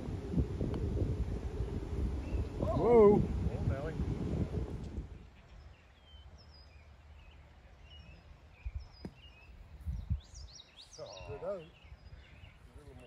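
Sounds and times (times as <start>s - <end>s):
birds chirping: 0.9s - 13.0s.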